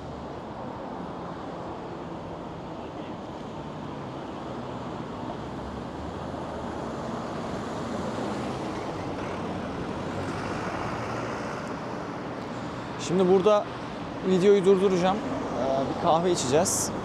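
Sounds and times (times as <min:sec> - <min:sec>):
passing vehicles: 0:00.0 - 0:17.0.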